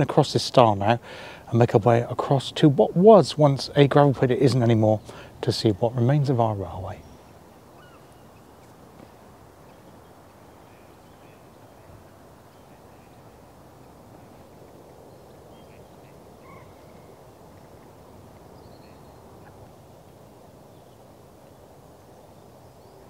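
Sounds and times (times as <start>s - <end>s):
low rush of outdoor noise: 0.0s - 23.0s
distant bird calls: 2.6s - 23.0s.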